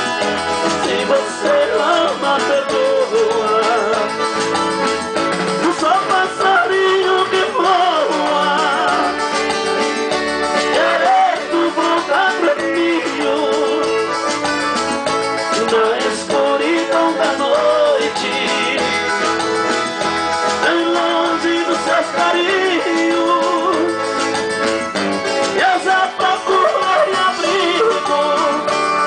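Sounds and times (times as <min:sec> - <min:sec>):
man singing with vibrato: 0:00.0 - 0:09.6, 0:10.4 - 0:14.2, 0:15.4 - 0:19.4, 0:20.4 - 0:24.4, 0:25.4 - 0:29.0
electronic keyboard: 0:00.0 - 0:29.0.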